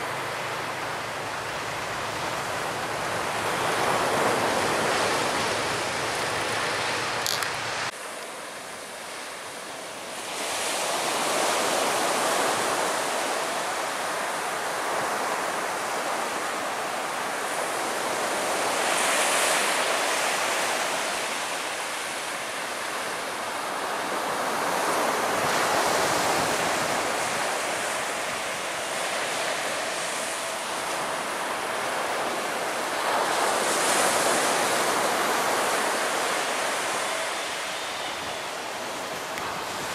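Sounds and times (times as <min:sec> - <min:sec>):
surf washing onto shore: 0:00.0 - 0:39.9.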